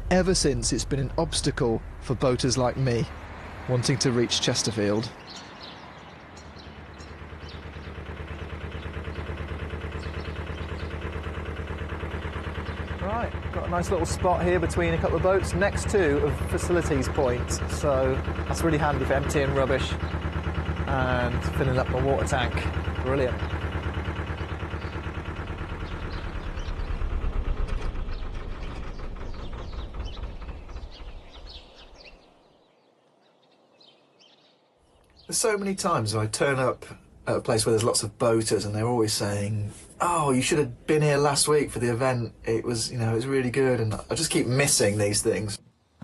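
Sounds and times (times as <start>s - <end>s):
diesel engine chugging: 0.0s - 32.5s, 35.3s - 45.6s
birds chirping: 0.0s - 46.0s.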